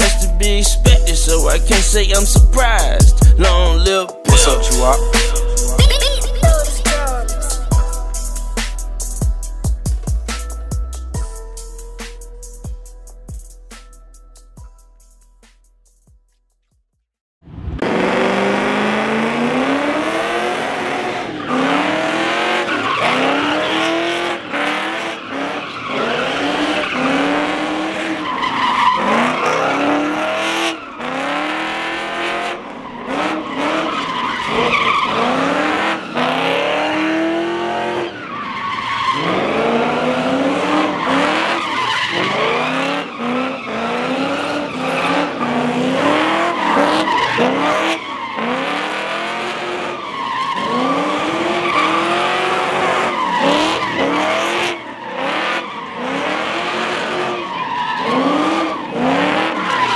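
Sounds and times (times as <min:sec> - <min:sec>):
car engines revving: 0:00.0 - 0:13.6, 0:17.5 - 0:59.9
tires squealing: 0:00.0 - 0:13.9, 0:17.5 - 0:59.9.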